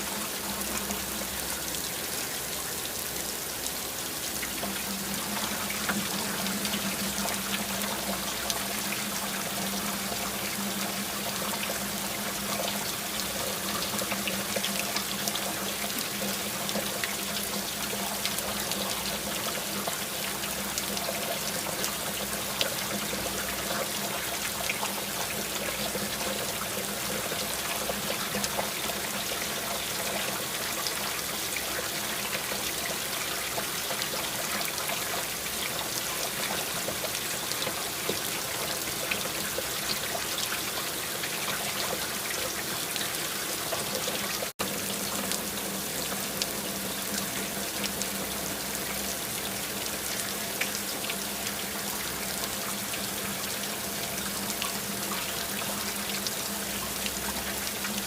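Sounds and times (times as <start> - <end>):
steady rain: 0.0 - 58.0
water trickling and pouring: 0.0 - 58.0.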